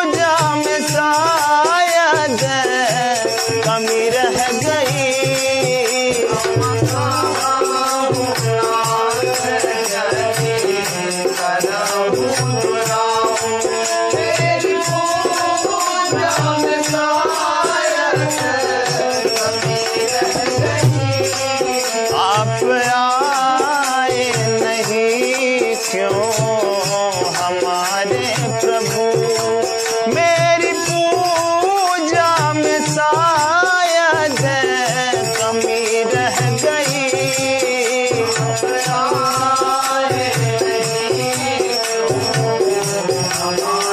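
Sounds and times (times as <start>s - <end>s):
devotional song with steady beat: 0.0s - 43.9s
rattling percussion: 0.0s - 43.9s.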